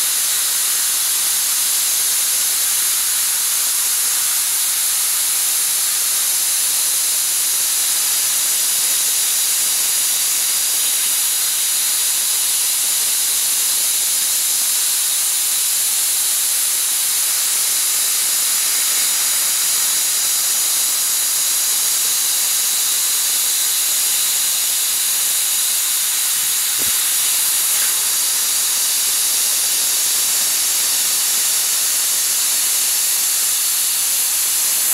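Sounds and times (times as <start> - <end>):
laser cutter gas jet hiss: 0.0 - 34.9.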